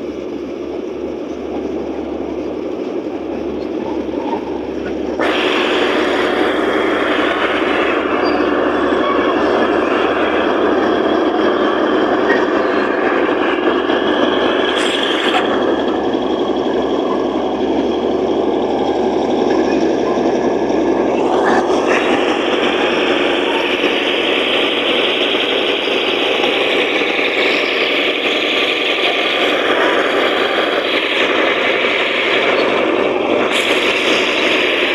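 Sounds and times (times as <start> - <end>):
bulldozer diesel engine under load: 0.0 - 34.9.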